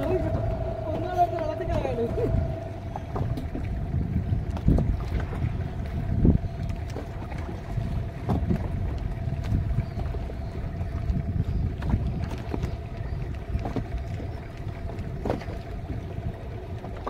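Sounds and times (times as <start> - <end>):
faint steady hum: 0.0 - 17.0
water slapping against boat hull: 0.0 - 17.0
wind rumbling on microphone: 0.0 - 17.0.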